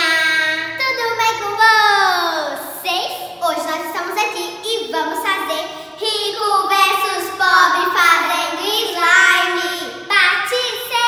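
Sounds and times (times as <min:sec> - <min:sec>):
girls singing: 0:00.0 - 0:02.7, 0:03.4 - 0:11.0.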